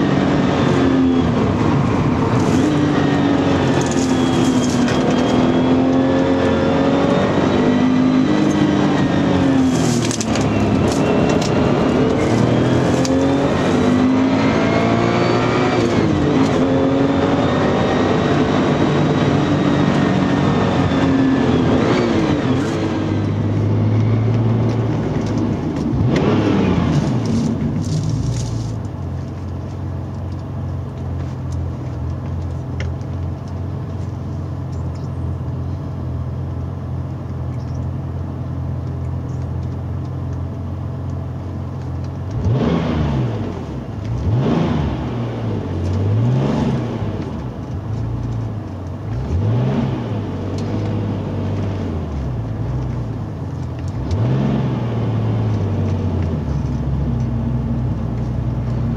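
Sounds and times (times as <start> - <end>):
car engine drone from cabin: 0.0 - 58.9.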